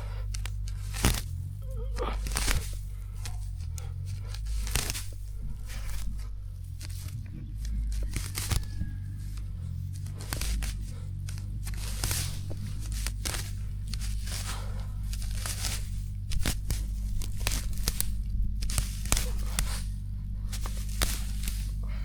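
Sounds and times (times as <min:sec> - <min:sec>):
hay bale rustling and tearing: 0:00.0 - 0:22.0
tractor engine running: 0:00.0 - 0:22.0.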